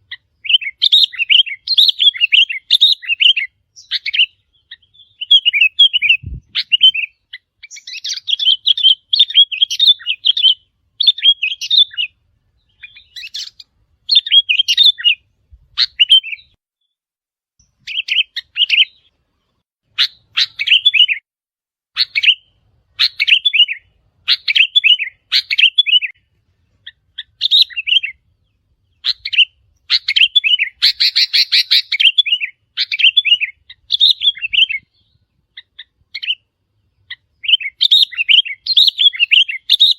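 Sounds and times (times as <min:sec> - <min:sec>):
bulbul song: 0:00.0 - 0:17.0, 0:17.6 - 0:21.3, 0:21.9 - 0:39.9.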